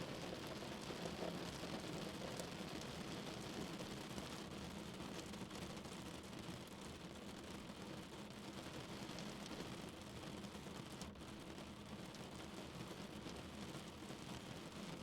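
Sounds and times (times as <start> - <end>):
rain hissing on a car: 0.1 - 15.0.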